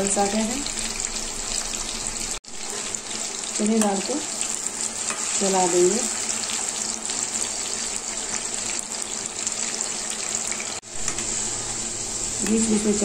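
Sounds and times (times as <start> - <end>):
lentils deep-frying in oil: 0.0 - 13.0.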